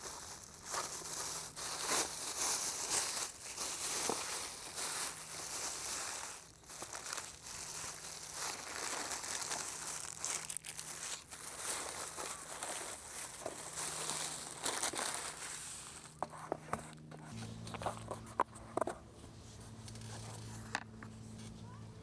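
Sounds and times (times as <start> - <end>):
crinkling and rustling: 0.0 - 21.6.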